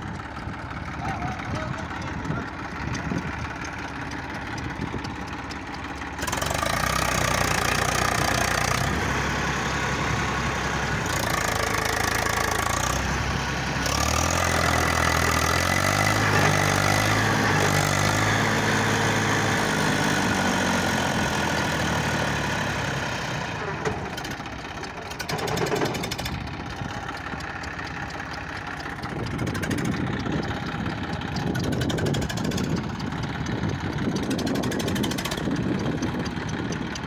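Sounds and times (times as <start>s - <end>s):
tractor diesel engine revving: 0.0s - 37.0s.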